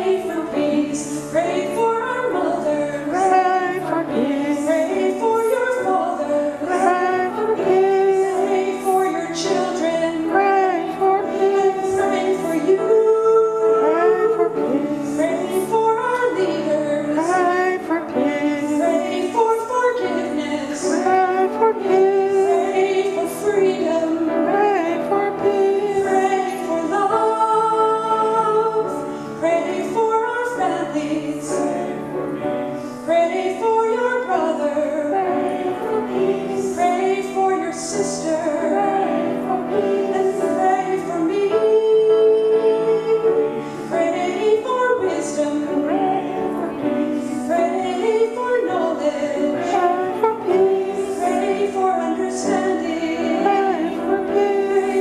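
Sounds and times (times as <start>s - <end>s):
choir singing a slow hymn: 0.0s - 55.0s.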